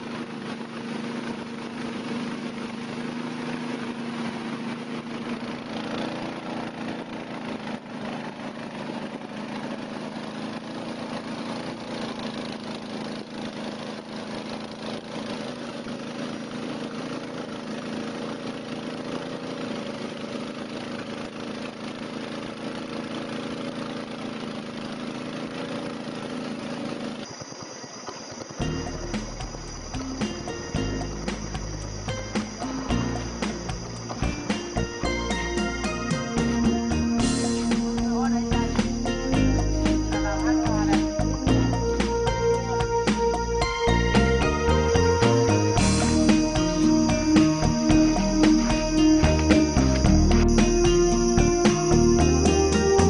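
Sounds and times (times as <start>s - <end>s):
motorboat engine humming: 0.0s - 53.0s.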